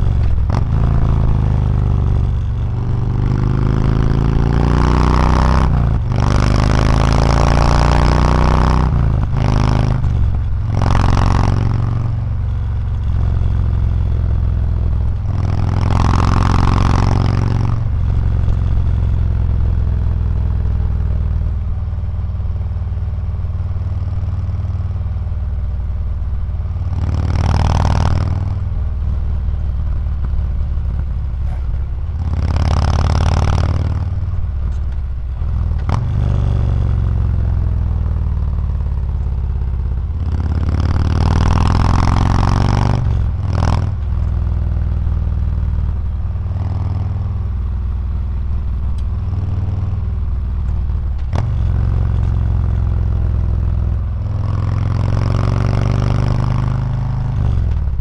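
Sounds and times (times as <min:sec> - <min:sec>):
motorcycle exhaust rumble: 0:00.0 - 0:58.0.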